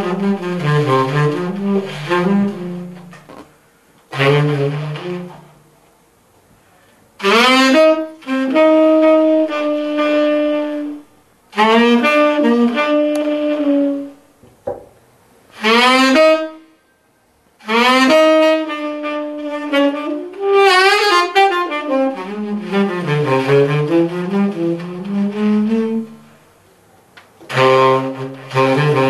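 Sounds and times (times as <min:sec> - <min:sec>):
saxophone melody: 0:00.0 - 0:05.7, 0:07.2 - 0:14.3, 0:15.5 - 0:16.8, 0:17.6 - 0:26.4, 0:27.5 - 0:29.0.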